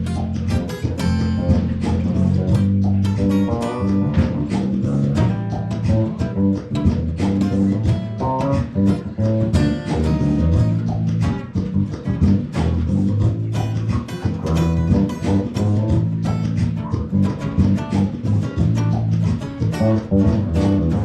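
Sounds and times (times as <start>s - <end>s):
bass line: 0.0s - 21.0s
guitar plucked notes: 0.0s - 21.0s.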